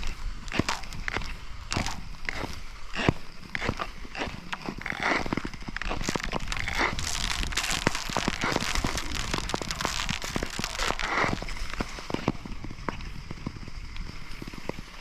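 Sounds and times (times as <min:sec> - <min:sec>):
ice clicking and cracking: 0:00.0 - 0:12.9
skate blades scraping on ice: 0:00.0 - 0:15.0.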